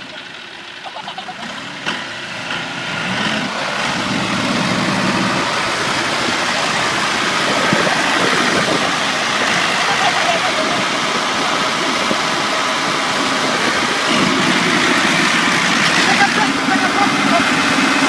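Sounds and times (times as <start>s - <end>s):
heavy vehicle engine running: 0.0s - 18.0s.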